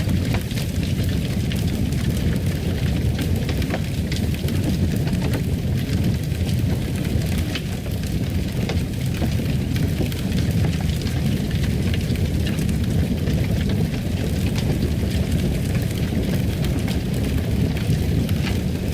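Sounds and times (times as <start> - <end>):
fire popping and crackling: 0.0 - 18.9
fire rumbling: 0.0 - 18.9.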